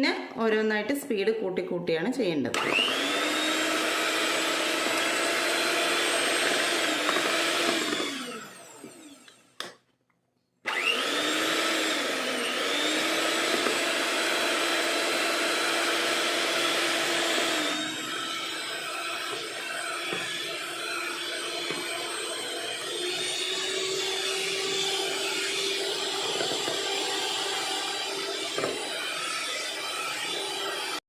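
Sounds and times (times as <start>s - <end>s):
electric mixer whine: 2.6s - 9.8s, 10.7s - 31.0s.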